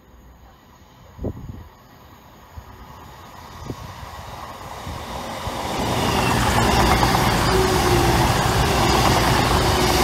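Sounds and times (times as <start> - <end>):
train whine: 0.0 - 10.0
train wheel noise: 1.5 - 10.0.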